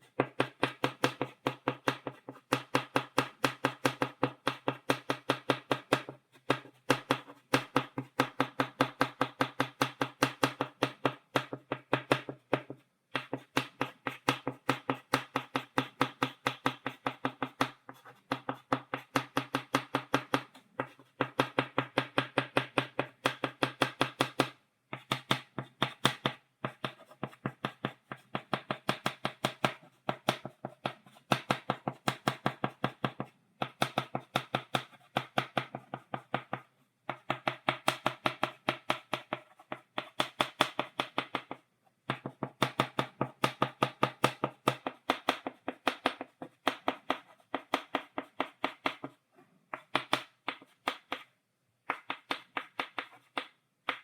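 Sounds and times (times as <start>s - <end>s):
chalk tapping on blackboard: 0.1s - 54.0s.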